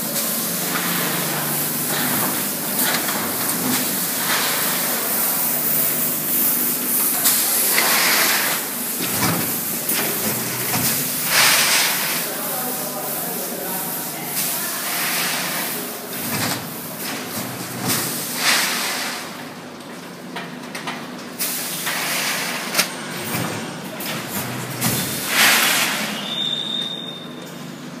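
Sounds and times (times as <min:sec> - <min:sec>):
bagging machine running: 0:00.0 - 0:20.6, 0:21.4 - 0:28.0.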